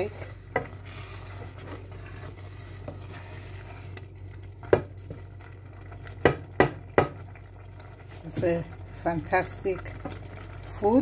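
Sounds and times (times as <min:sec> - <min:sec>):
wooden spoon stirring thick sauce: 0:00.0 - 0:11.0.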